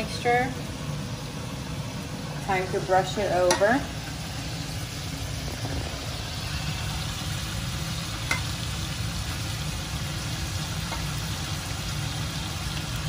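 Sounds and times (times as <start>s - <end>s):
low hum: 0.0s - 11.2s
chicken sizzling in hot oil: 0.0s - 13.0s.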